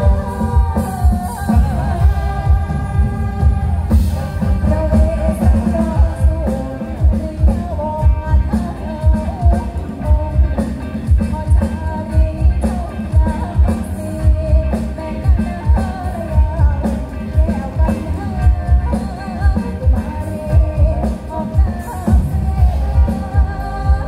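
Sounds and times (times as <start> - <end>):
song with heavy bass beat: 0.0 - 24.0.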